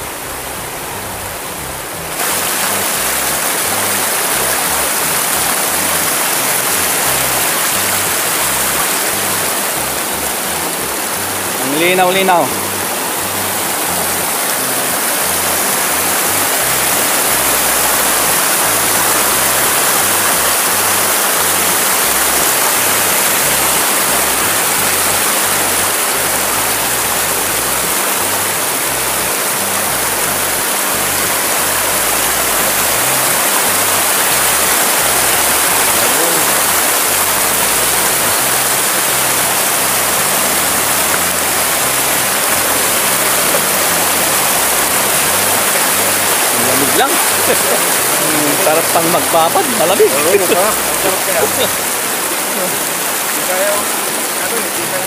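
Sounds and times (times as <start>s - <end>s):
river rushing over stones: 0.0s - 55.0s.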